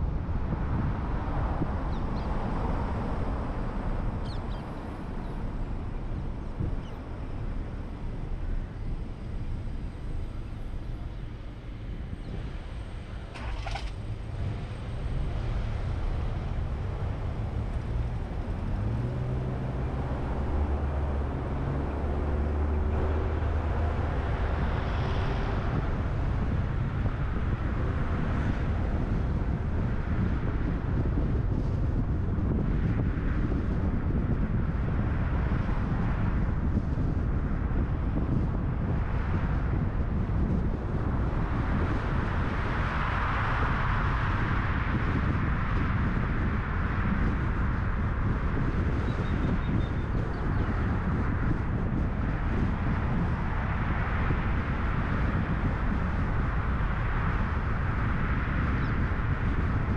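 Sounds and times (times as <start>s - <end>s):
car road and wind rumble: 0.0s - 59.9s
low engine hum: 0.0s - 59.9s.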